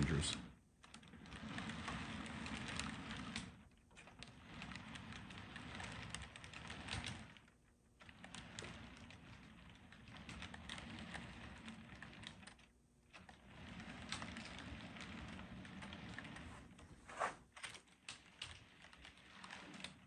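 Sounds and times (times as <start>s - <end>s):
model train rolling on track: 0.0s - 16.9s, 17.6s - 20.0s.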